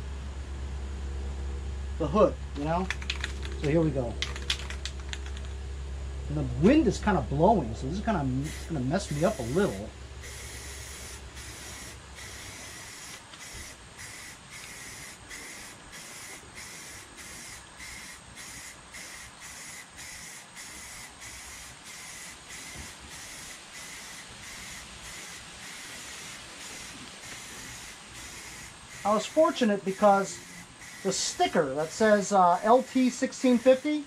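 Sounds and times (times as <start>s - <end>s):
spray paint can hissing: 2.8s - 5.5s, 8.4s - 34.0s.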